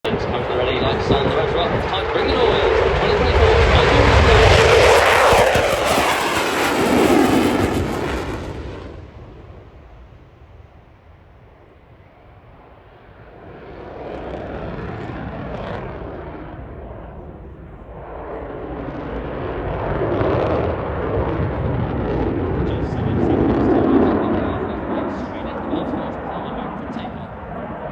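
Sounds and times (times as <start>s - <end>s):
jet fighter engines roaring: 0.1s - 27.9s.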